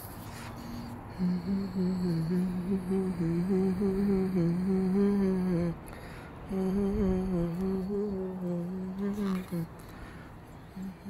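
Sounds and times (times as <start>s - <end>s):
person humming a slow tune: 0.0s - 10.0s, 10.6s - 11.0s.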